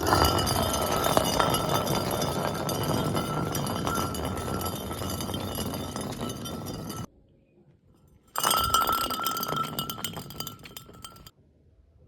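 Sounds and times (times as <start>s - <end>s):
glass crunching and clinking: 0.0s - 7.1s, 8.4s - 11.3s.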